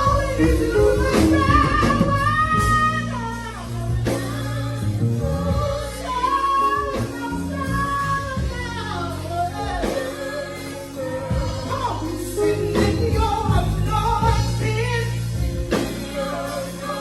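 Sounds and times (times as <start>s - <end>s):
gospel singing: 0.0s - 17.0s
sustained instrumental backing: 0.0s - 17.0s.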